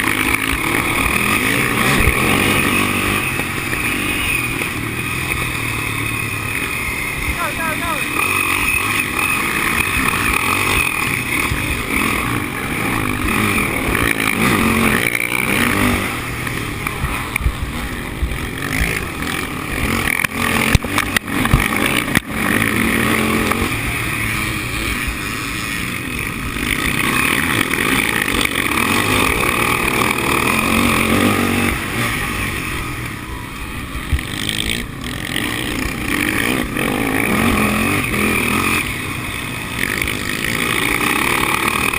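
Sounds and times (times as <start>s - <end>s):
motorcycle engines racing: 0.0s - 41.9s.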